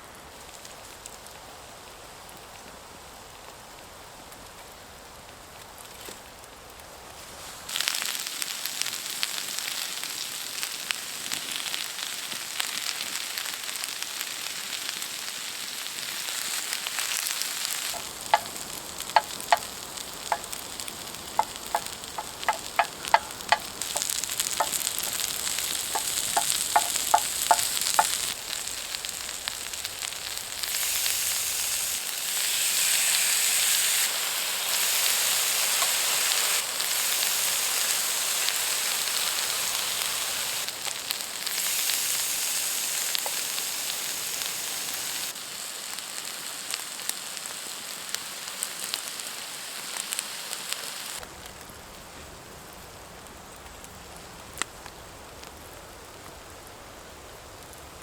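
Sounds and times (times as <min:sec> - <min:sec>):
food sizzling on a pan: 0:00.0 - 0:58.0.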